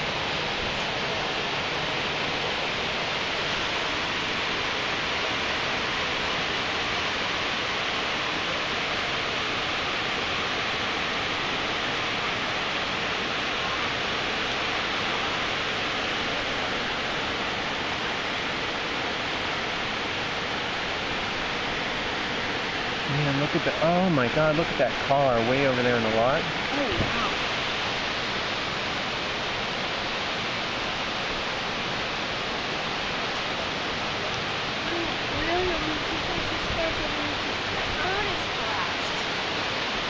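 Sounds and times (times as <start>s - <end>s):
floodwater rushing: 0.0s - 40.0s.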